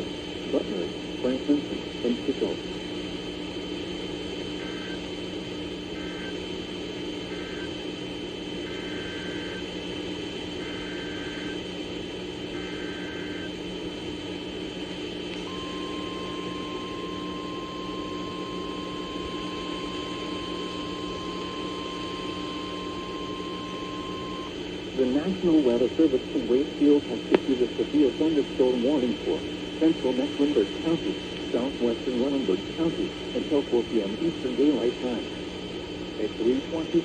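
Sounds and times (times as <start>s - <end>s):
radio hiss and hum: 0.0s - 37.0s
steady warning tone: 4.1s - 14.2s, 15.4s - 37.0s.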